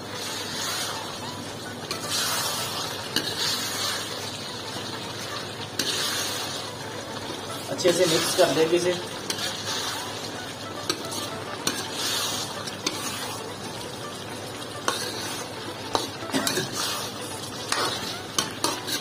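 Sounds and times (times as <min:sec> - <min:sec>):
food sizzling in a pan: 0:00.0 - 0:19.0
metal spoon scraping a pan: 0:00.1 - 0:06.8, 0:07.8 - 0:13.6, 0:14.8 - 0:19.0.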